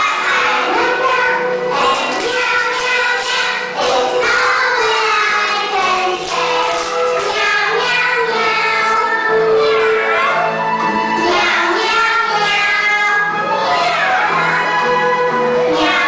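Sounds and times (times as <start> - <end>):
background music: 0.0 - 16.0
children singing in unison: 0.0 - 16.0.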